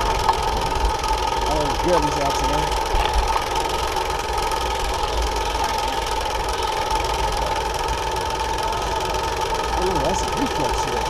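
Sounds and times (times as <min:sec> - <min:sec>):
bicycle motor whining: 0:00.0 - 0:11.0.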